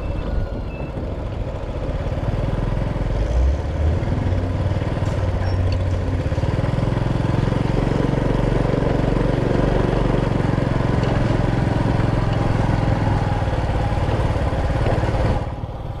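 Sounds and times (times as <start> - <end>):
motorcycle engine riding: 0.0 - 16.0.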